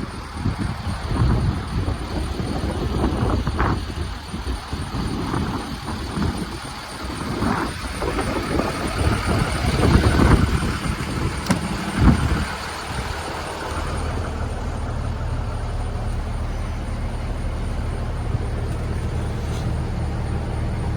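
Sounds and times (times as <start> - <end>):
diesel truck engine running: 0.0 - 20.9.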